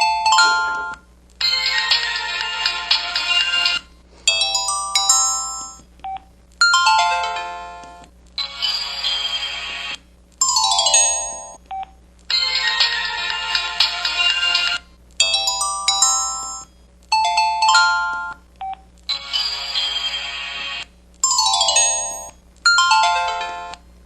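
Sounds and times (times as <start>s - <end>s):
phone ringtone melodies: 0.0s - 5.8s, 6.6s - 9.6s, 10.4s - 11.6s, 12.3s - 18.4s, 19.1s - 20.4s, 21.2s - 23.8s.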